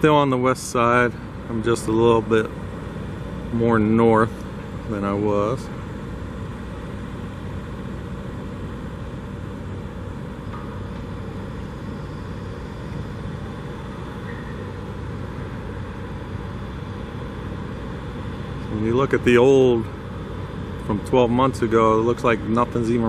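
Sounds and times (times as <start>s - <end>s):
road traffic drone: 0.0s - 23.0s.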